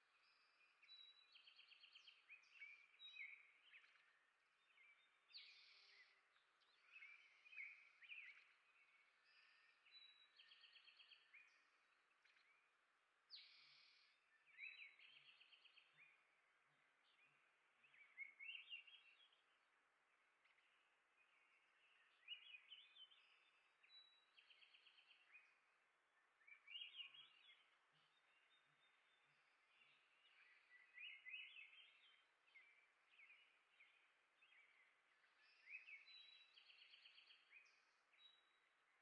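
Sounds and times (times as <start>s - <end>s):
soft steady hiss: 0.0s - 39.0s
songbirds chirping: 0.0s - 39.0s.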